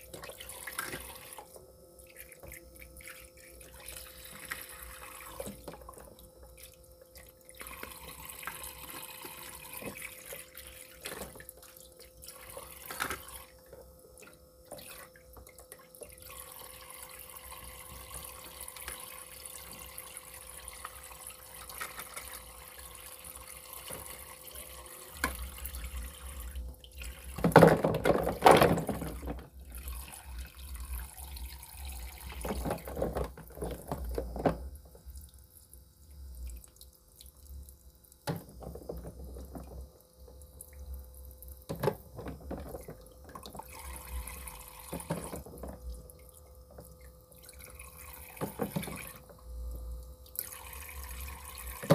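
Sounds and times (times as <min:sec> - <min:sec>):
faucet running water: 0:00.0 - 0:51.9.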